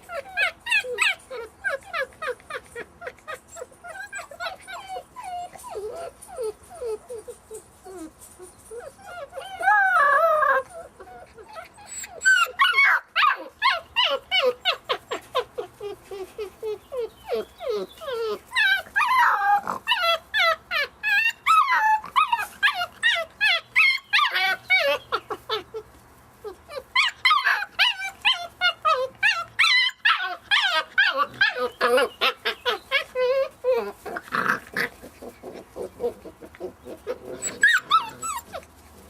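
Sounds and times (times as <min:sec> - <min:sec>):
puppies whimpering and yipping: 0:00.0 - 0:39.0.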